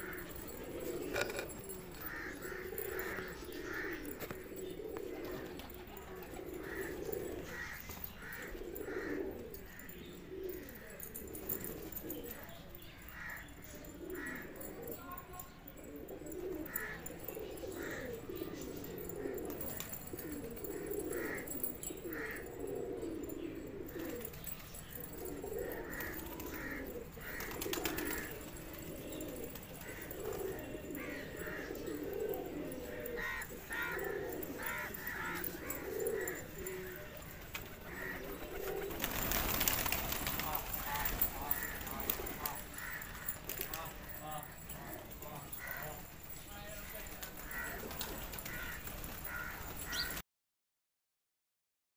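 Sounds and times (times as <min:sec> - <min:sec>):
pigeons cooing: 0:00.0 - 0:50.2.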